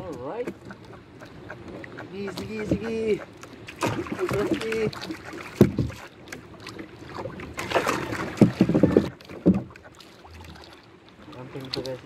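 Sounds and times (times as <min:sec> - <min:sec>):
paddle knocking against boat: 0:00.0 - 0:10.6
paddle splashing water: 0:00.0 - 0:12.0.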